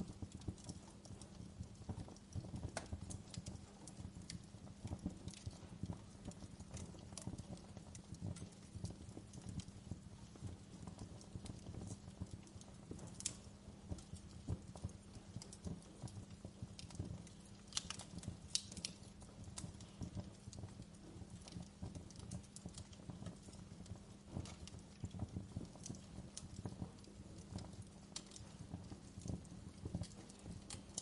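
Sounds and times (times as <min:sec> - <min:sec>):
low steady fire rumble: 0:00.0 - 0:31.0
wood fire crackling: 0:00.0 - 0:31.0.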